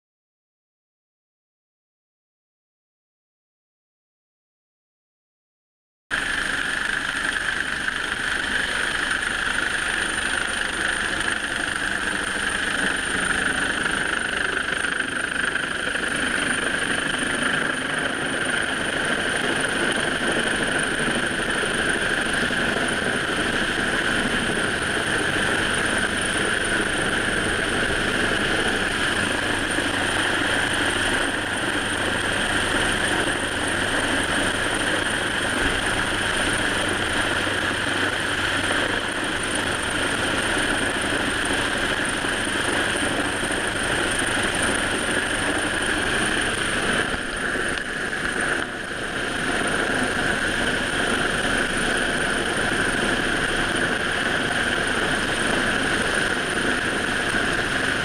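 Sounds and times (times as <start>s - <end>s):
helicopter hovering overhead: 6.1s - 58.0s
high turbine whine: 6.2s - 58.0s.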